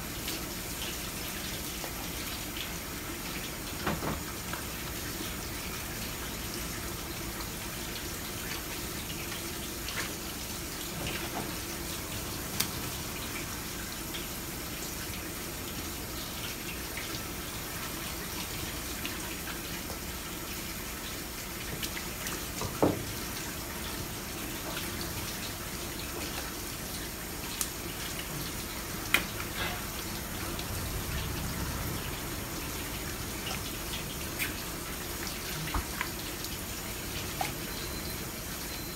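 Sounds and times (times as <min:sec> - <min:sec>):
tap water running onto cutting board: 0:00.0 - 0:37.8.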